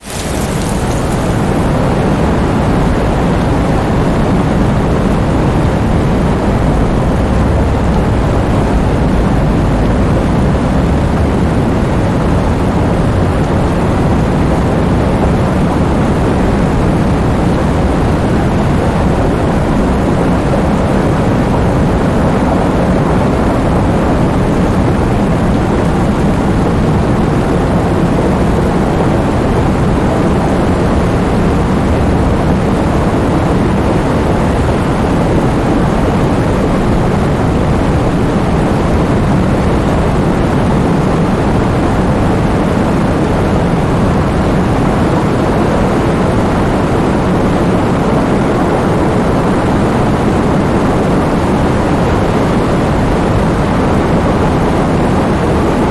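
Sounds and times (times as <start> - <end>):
heavy rain falling: 0.0 - 55.7.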